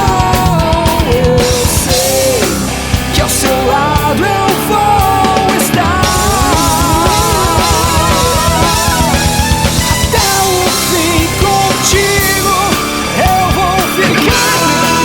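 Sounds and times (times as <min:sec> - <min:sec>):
rapid kick drum strokes: 0:00.0 - 0:15.0
rock band playing: 0:00.0 - 0:15.0.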